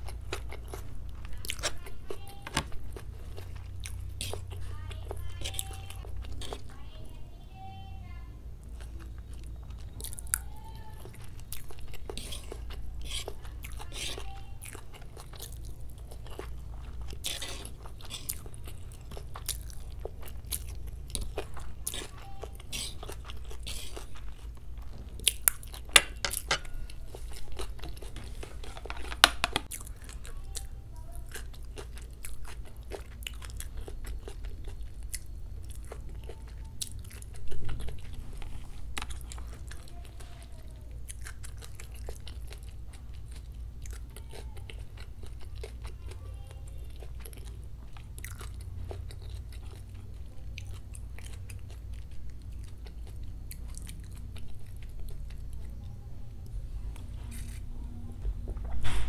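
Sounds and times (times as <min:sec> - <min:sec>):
chewing noodles: 0:00.0 - 0:06.9, 0:08.6 - 0:58.6.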